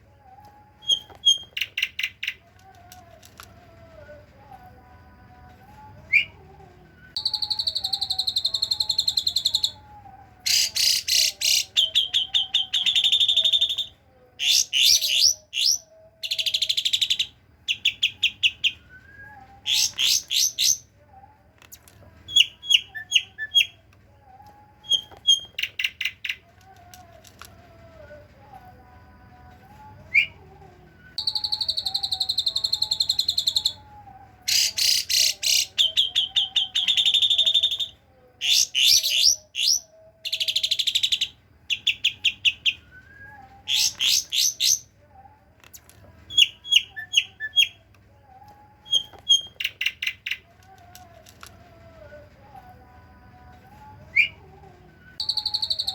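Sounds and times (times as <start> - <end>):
songbird chip notes and trills: 0.0 - 55.9.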